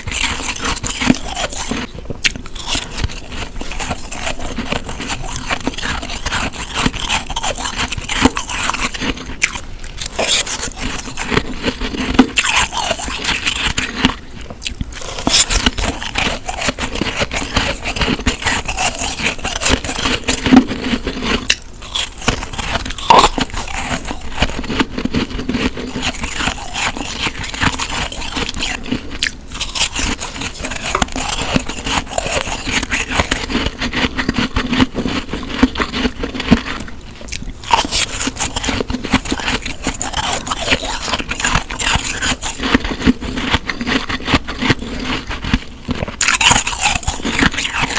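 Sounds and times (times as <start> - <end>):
chewing snow crunches: 0.0 - 47.9.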